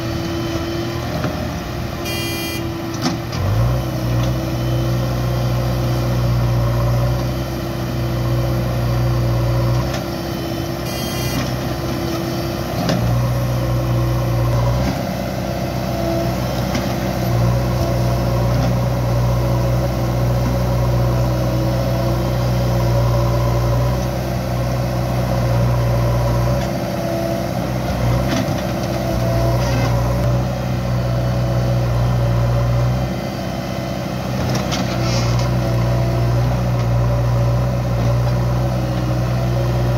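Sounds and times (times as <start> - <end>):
diesel engine droning under load: 0.0 - 39.9.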